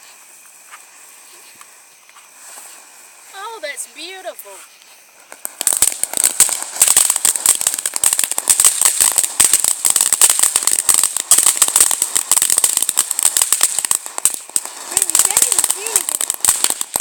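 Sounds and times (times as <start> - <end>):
firework crackling: 0.0 - 17.0.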